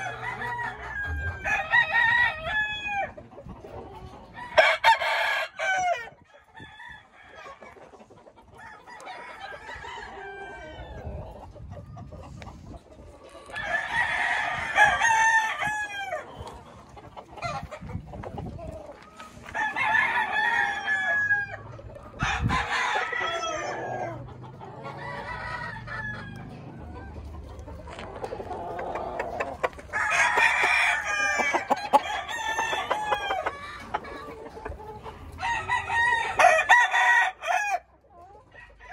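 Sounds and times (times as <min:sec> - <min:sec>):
roosters crowing: 0:00.0 - 0:03.3, 0:04.2 - 0:07.7, 0:08.5 - 0:11.4, 0:13.4 - 0:16.8, 0:19.2 - 0:27.2, 0:27.8 - 0:38.9.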